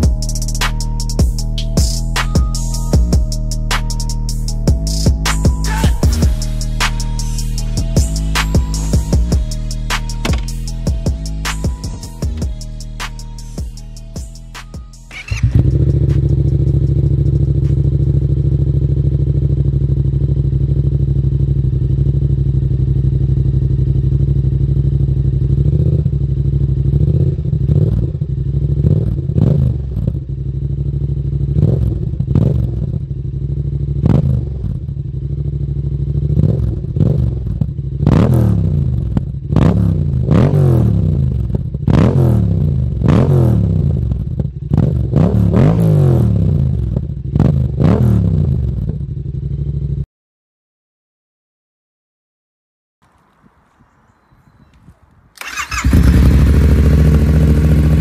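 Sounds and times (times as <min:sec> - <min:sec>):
motorcycle engine idling and revving: 0:00.0 - 0:50.1, 0:55.4 - 0:58.0.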